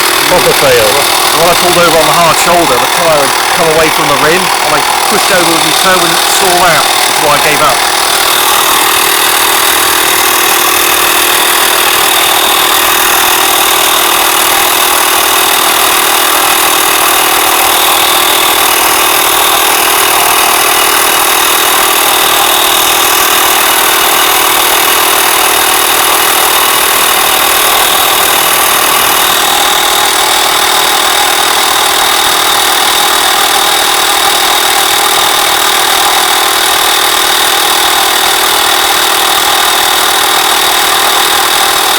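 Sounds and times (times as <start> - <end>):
tyre inflator compressor running: 0.0 - 41.9.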